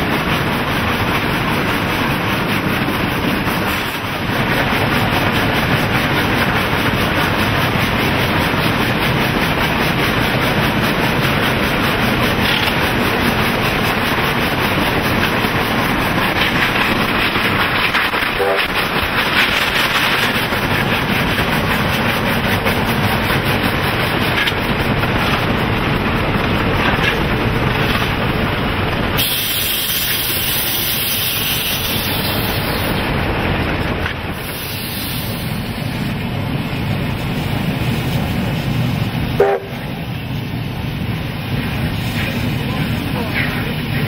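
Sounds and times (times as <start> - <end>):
steam hissing: 0.0 - 44.0
steam locomotive rumbling: 0.0 - 44.0.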